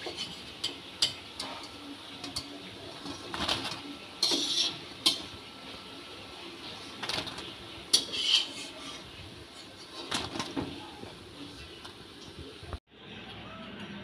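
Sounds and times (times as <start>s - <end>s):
oil sizzling: 0.0s - 12.7s.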